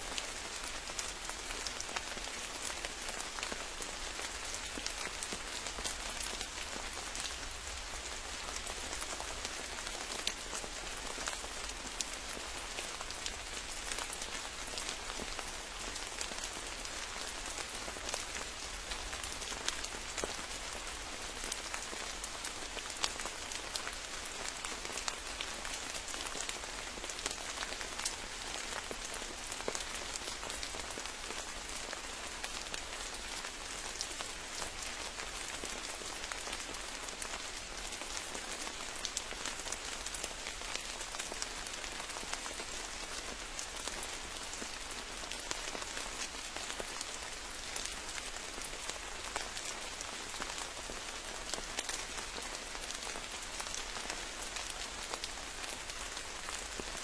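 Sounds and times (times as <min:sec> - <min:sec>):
rain falling on forest: 0:00.0 - 0:57.0.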